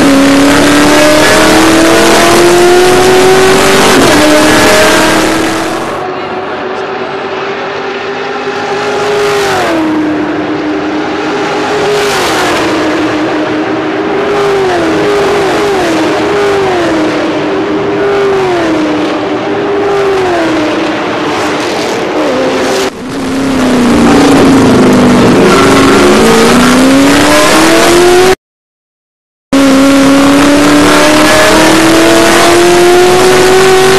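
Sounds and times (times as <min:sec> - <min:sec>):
close race car accelerating: 0:00.0 - 0:28.4, 0:29.6 - 0:33.9
race car engines at full throttle: 0:00.0 - 0:28.4, 0:29.6 - 0:33.9.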